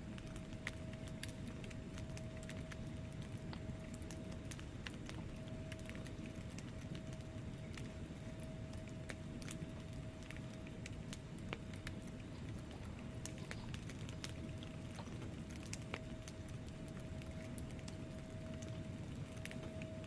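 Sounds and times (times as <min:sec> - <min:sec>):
burning logs popping: 0:00.0 - 0:20.0
faint steady tone: 0:00.0 - 0:20.0
low rumble of flames: 0:00.0 - 0:20.0.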